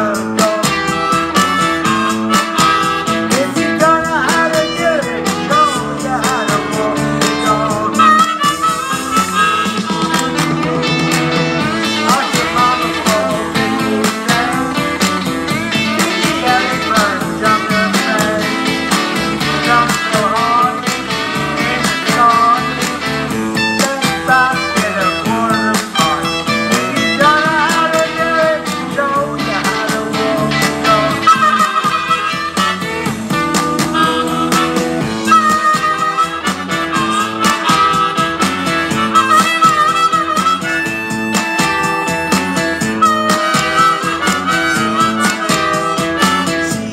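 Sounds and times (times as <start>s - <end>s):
blues harmonica: 0.0s - 46.9s
rhythmic backing music: 0.0s - 46.9s.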